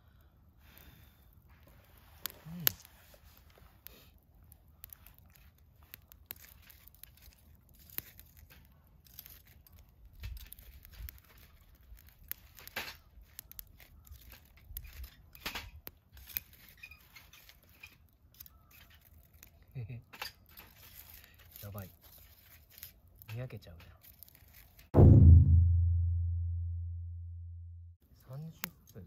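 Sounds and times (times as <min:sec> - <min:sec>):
wood campfire crackling: 0:00.0 - 0:25.0, 0:28.1 - 0:29.0.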